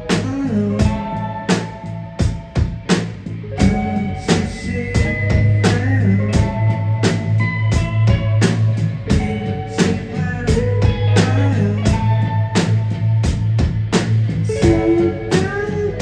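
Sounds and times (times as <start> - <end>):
drum kit: 0.0 - 16.0
electric guitar: 0.0 - 16.0
steady bass note: 0.0 - 16.0.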